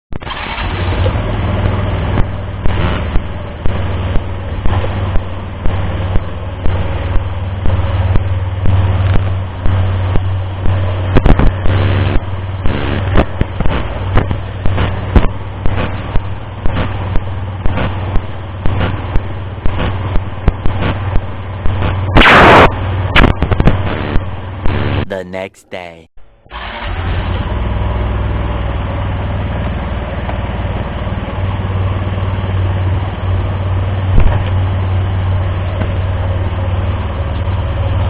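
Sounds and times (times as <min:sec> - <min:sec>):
car road and engine noise: 0:00.2 - 0:23.3, 0:26.5 - 0:38.0.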